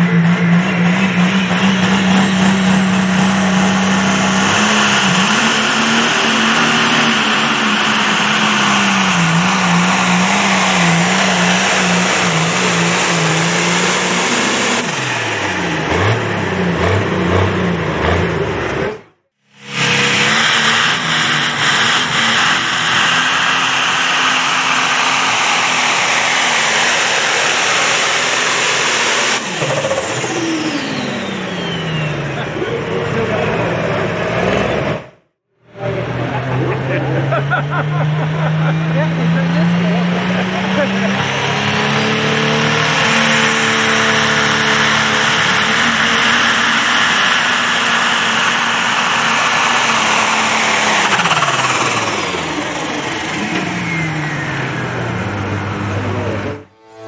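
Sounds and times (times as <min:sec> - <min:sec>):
diesel tractor engine at full throttle: 0:00.0 - 0:57.0.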